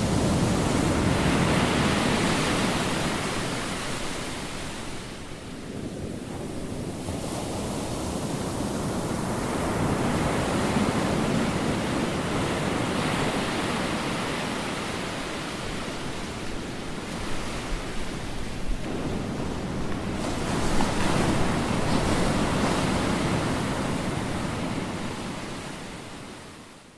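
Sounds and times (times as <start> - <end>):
ocean waves washing: 0.0 - 26.9.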